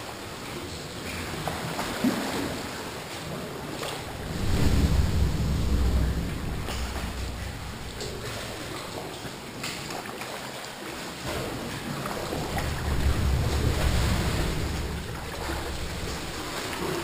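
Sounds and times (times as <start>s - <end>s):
sea water sloshing in cave: 0.0s - 17.0s.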